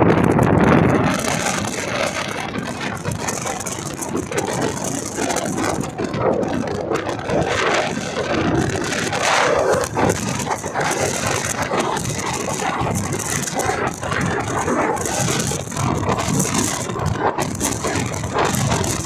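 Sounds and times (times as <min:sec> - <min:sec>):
train wheels on rails: 0:01.0 - 0:19.0.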